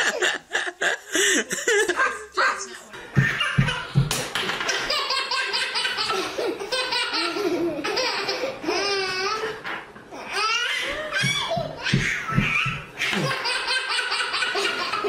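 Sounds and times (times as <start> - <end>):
baby laughing: 0.0 - 4.0, 4.7 - 9.6, 10.2 - 15.0.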